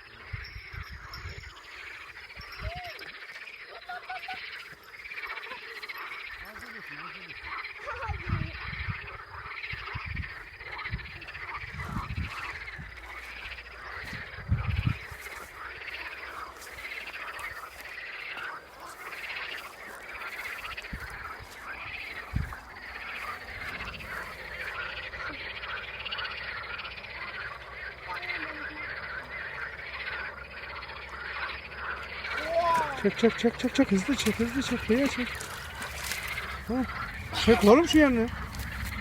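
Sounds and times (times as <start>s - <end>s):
frogs croaking: 0.0s - 39.0s.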